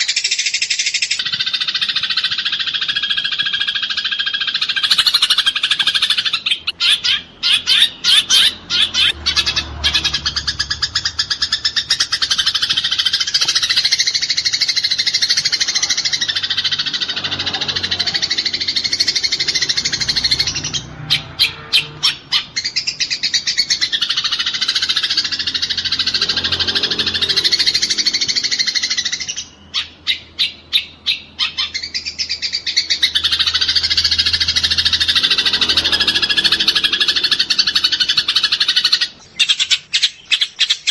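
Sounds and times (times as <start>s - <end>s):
loud sparrow chirps: 0.0s - 40.9s
sparrows twittering: 0.0s - 40.9s.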